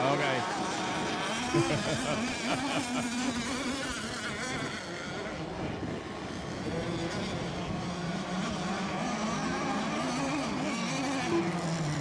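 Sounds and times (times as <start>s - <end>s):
small boat motors buzzing: 0.0s - 12.0s.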